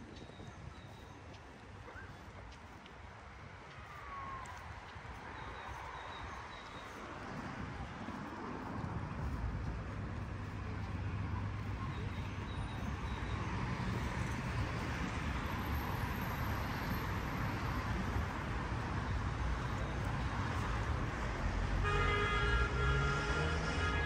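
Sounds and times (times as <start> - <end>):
cars passing: 3.2 - 24.0.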